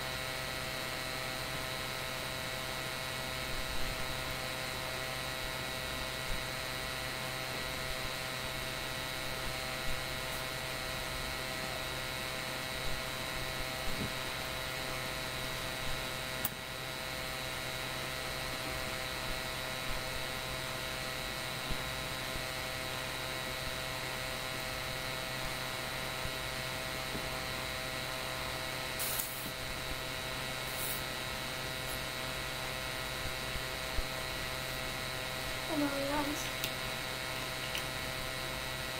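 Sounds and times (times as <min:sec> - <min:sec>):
electrical mains hum with hiss: 0:00.0 - 0:38.9.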